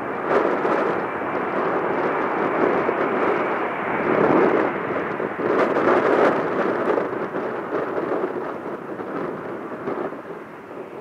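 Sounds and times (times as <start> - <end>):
jet engine noise: 0.0 - 11.0.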